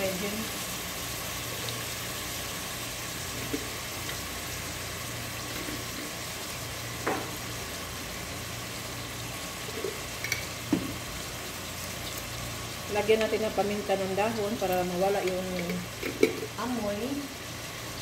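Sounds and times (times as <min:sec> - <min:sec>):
meat frying in oil: 0:00.0 - 0:18.0.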